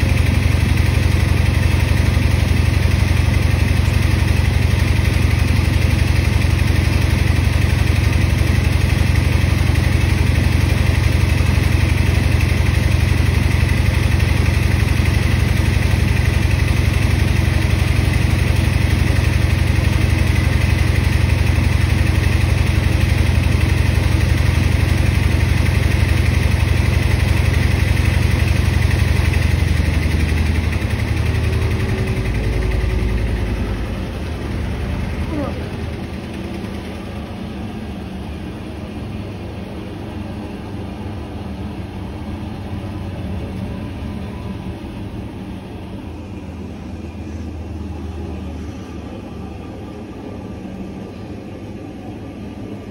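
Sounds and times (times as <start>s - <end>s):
washing machine spinning hum: 0.0s - 52.9s.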